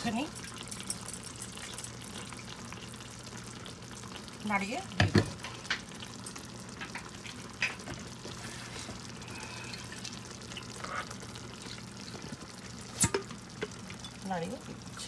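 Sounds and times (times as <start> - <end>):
gravy sizzling in a pan: 0.0 - 15.0.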